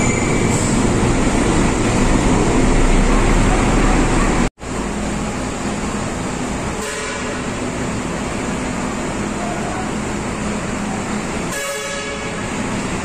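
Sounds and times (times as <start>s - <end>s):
truck engines rumbling: 0.0s - 13.0s.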